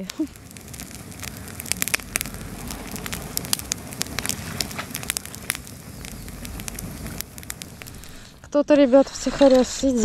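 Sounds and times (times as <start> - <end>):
low rush of flame: 0.0 - 9.4
campfire crackling and popping: 0.0 - 10.0.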